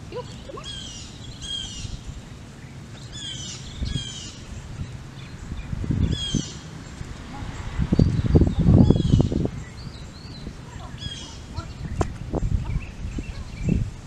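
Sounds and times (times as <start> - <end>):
songbird chirping: 0.1 - 13.9.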